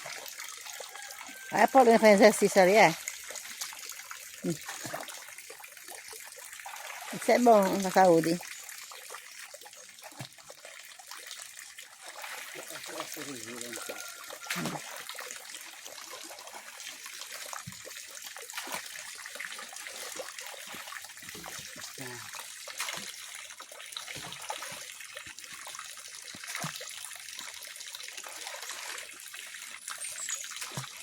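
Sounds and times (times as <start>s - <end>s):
pond water splashing by hand: 0.0s - 31.0s.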